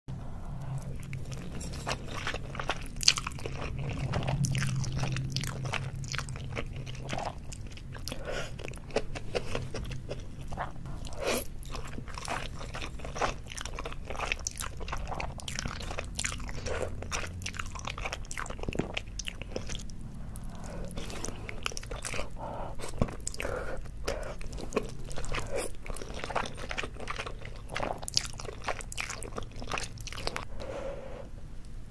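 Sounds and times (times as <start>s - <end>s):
faint low hum: 0.1s - 31.9s
sticky chewing: 0.5s - 30.5s.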